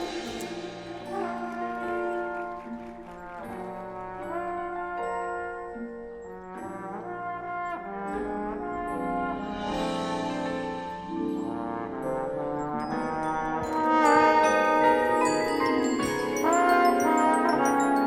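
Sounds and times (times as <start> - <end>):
brass chords: 0.0 - 18.0.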